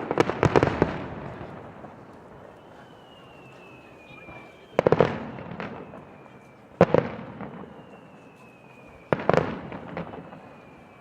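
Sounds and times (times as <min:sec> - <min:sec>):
fireworks bursting: 0:00.0 - 0:11.0
fireworks crackle: 0:00.0 - 0:11.0.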